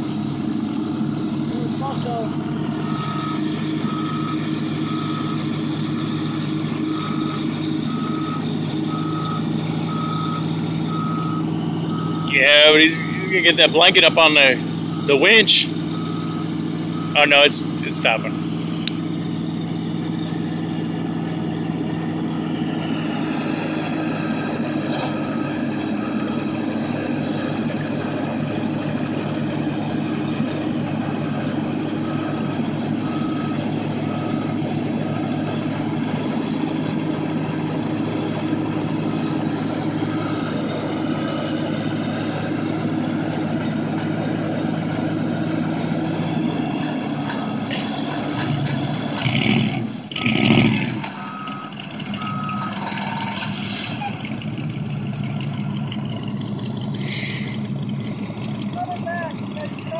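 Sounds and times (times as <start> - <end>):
large vehicle engine droning: 0.0 - 59.9.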